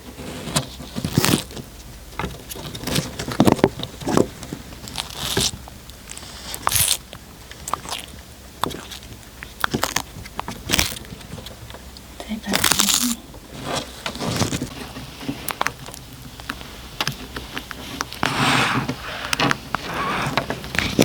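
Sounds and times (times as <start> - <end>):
cat chewing and crunching food: 0.0 - 21.0.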